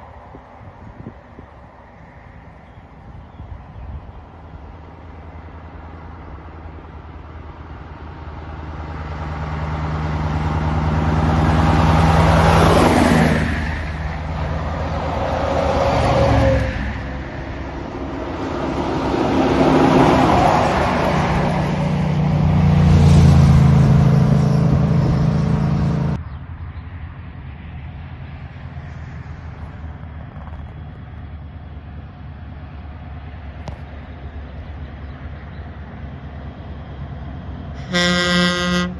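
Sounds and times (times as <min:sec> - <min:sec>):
heavy trucks driving past: 0:00.0 - 0:38.9.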